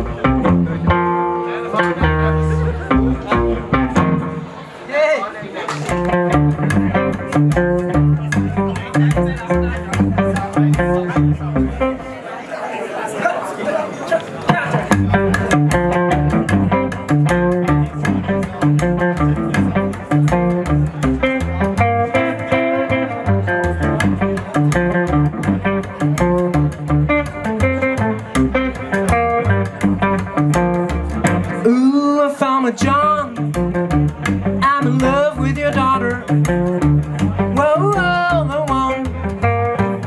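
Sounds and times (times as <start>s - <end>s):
bass guitar: 0.0s - 4.8s, 5.7s - 12.2s, 14.5s - 40.0s
guitar: 0.0s - 12.2s, 14.3s - 40.0s
steady beat: 1.9s - 4.6s, 5.8s - 12.1s, 14.5s - 31.9s, 32.8s - 40.0s.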